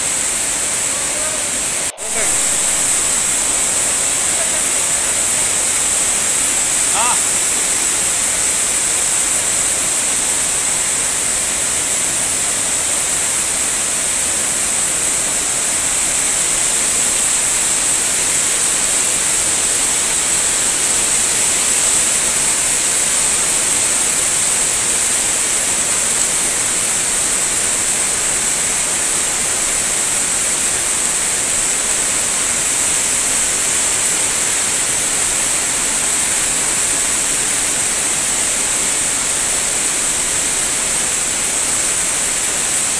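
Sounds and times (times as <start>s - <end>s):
floodwater rushing: 0.0s - 42.9s.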